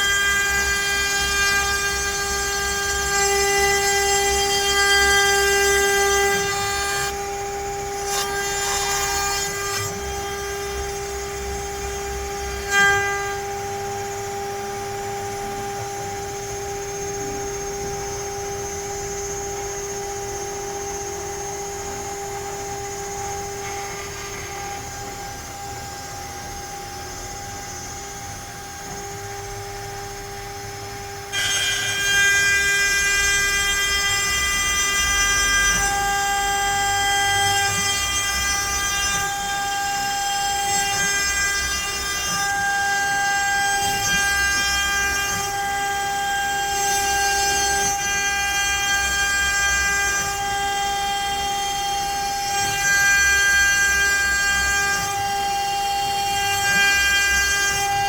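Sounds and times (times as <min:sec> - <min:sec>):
router bit cutting wood: 0:00.0 - 0:58.0
router spindle whining: 0:00.0 - 0:58.0.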